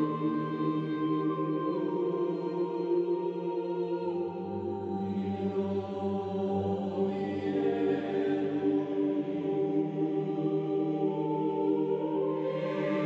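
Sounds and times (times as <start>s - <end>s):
sustained chanting voices: 0.0s - 13.0s.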